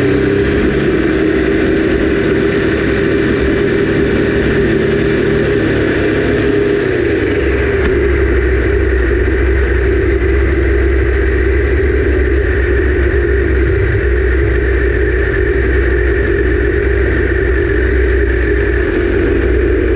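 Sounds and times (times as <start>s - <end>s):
motorcycle engine cruising: 0.0s - 19.9s.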